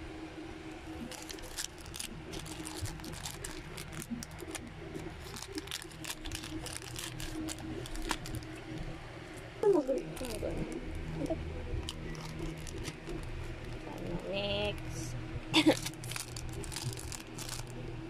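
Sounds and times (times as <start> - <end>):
plastic packaging crinkling: 0.9 - 8.9, 9.6 - 14.9, 15.6 - 17.8.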